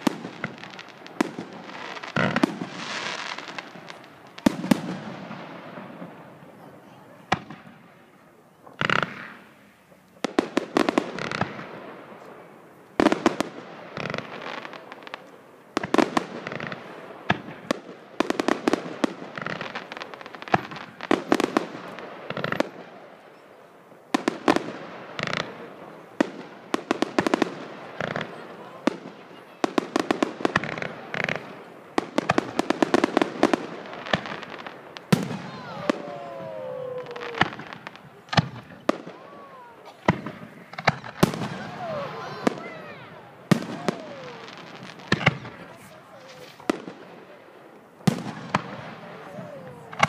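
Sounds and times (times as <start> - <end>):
fireworks bangs: 0.0 - 50.0
fireworks crackling: 0.0 - 50.0.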